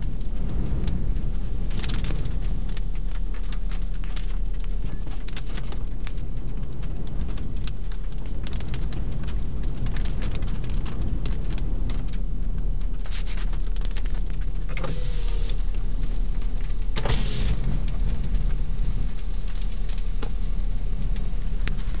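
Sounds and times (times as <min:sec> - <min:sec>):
grit and rain ticking on car: 0:00.0 - 0:22.0
low rumble of wind and vehicle: 0:00.0 - 0:22.0
wind rushes: 0:00.0 - 0:22.0.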